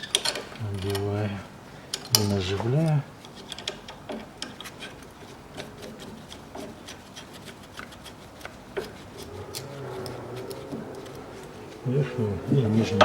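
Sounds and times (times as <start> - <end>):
light metallic clicks and rubbing: 0.0 - 1.3, 1.9 - 11.8.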